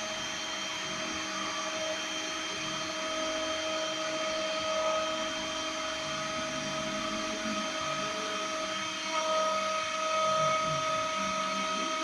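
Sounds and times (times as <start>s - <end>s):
milling spindle high whine: 0.0s - 12.0s.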